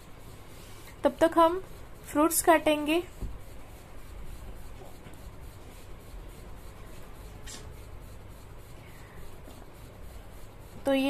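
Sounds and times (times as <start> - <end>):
faint rubbing and handling noise: 0.2 - 11.0.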